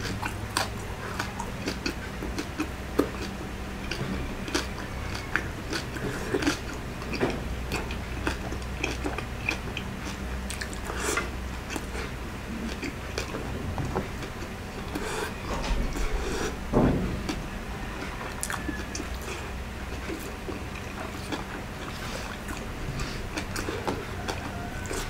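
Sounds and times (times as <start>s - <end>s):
person chewing crispy food: 0.0s - 16.6s, 17.2s - 25.0s
low hum: 0.0s - 25.0s.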